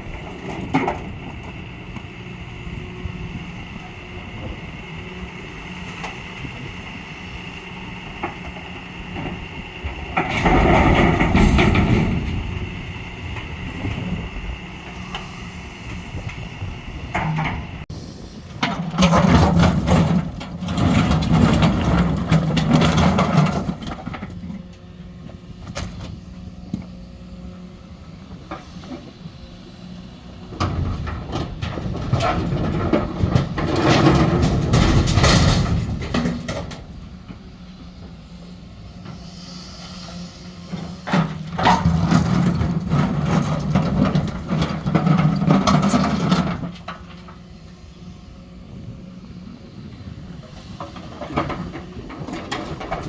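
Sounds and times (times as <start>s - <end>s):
rocks rumbling and rattling into truck: 0.0s - 39.4s, 40.2s - 53.0s
heavy diesel machinery running: 0.0s - 53.0s.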